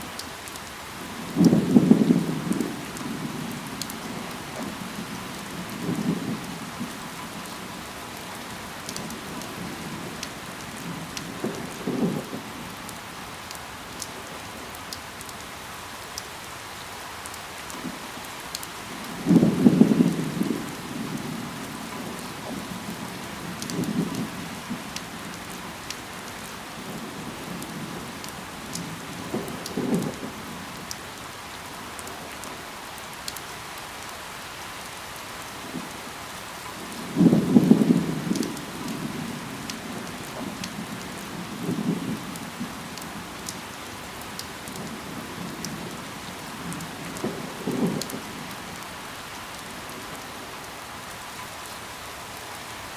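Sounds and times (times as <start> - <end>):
sharp raindrop ticks: 0.0 - 16.6, 17.2 - 31.2, 31.9 - 34.2, 34.8 - 50.8
steady rain falling: 0.0 - 52.9.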